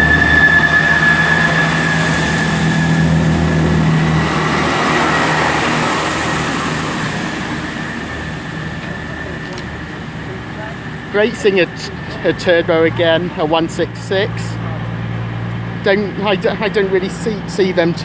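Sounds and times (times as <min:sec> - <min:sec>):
diesel train pulling away: 0:00.0 - 0:18.0.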